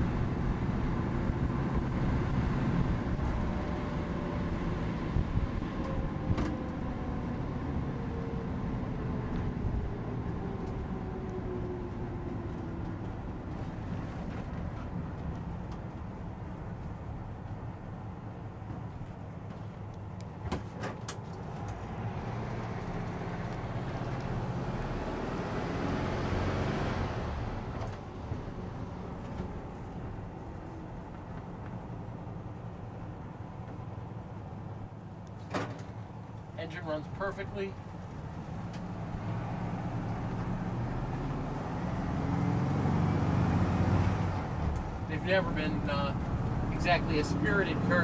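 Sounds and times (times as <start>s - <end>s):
road noise: 0.0s - 48.0s
van engine running: 0.0s - 48.0s.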